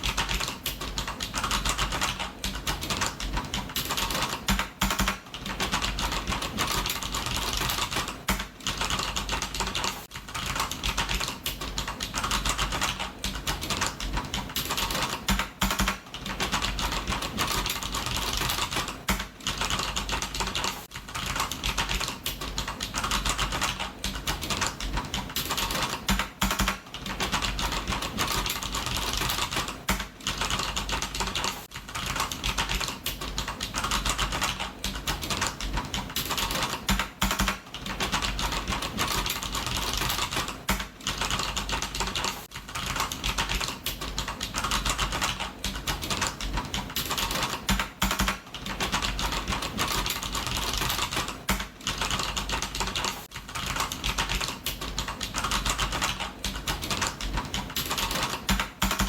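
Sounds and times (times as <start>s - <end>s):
fast typing on keyboard: 0.0s - 59.0s.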